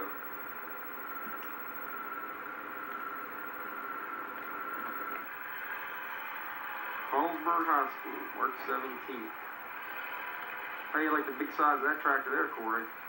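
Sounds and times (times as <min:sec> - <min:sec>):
thin high whine: 0:00.0 - 0:13.0
videotape hiss: 0:00.0 - 0:13.0.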